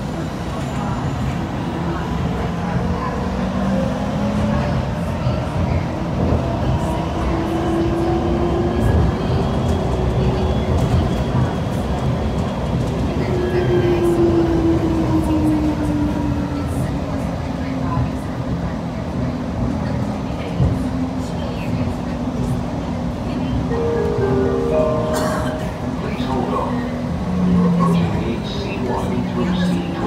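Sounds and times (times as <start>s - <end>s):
train ride rumble: 0.0s - 30.0s.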